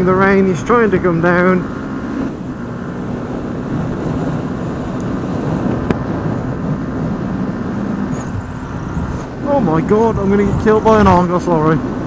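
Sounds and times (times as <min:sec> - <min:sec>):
motorcycle engine drone: 0:00.0 - 0:12.0
wind noise on microphone: 0:01.8 - 0:12.0.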